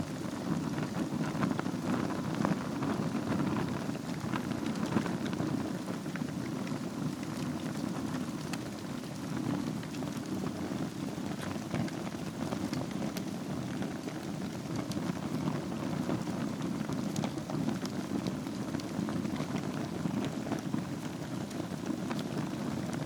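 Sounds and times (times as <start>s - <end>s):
fire crackles and pops: 0.0s - 23.0s
low rush of flame: 0.0s - 23.0s.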